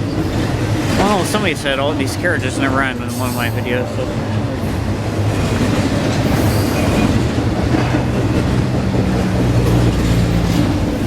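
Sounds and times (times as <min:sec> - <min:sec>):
freight train rolling past: 0:00.0 - 0:11.0
wheels clacking over rail joints: 0:00.0 - 0:11.0.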